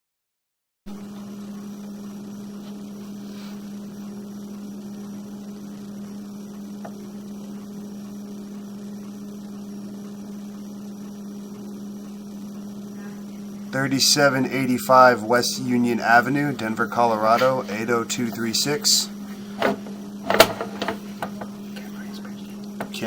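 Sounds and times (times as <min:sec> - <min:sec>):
steady electrical hum: 0:00.9 - 0:23.0.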